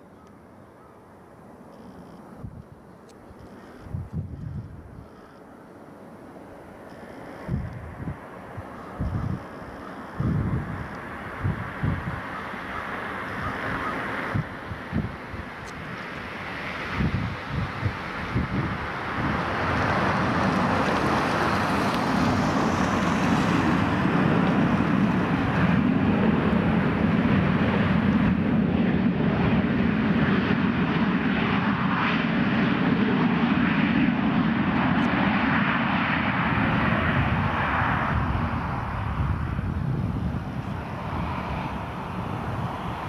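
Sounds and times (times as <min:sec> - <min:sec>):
jet engines at high power: 0:00.0 - 0:43.0.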